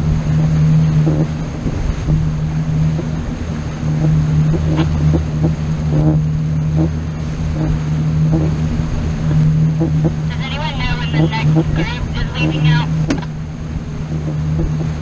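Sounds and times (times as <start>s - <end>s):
motorboat engine droning: 0.0s - 15.0s.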